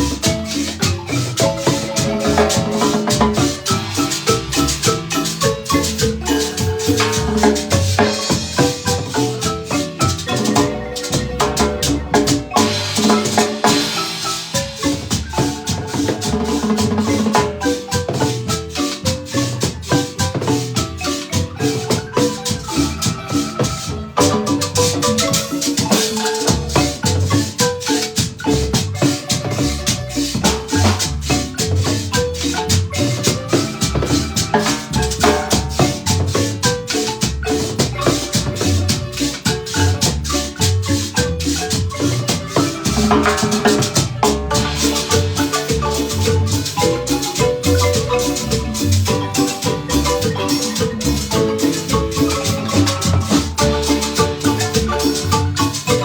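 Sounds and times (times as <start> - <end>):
marimba band playing: 0.0 - 56.0.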